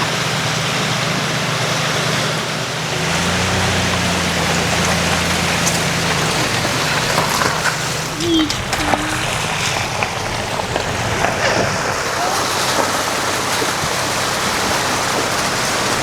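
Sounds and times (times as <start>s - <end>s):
fast-moving water rushing: 0.0s - 16.0s
low engine hum: 0.0s - 16.0s.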